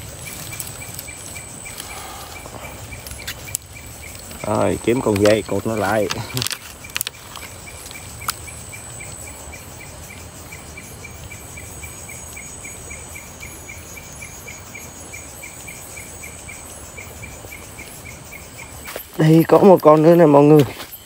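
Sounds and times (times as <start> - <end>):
insect chirping: 0.0 - 21.0
insects high-pitched drone: 0.0 - 21.0.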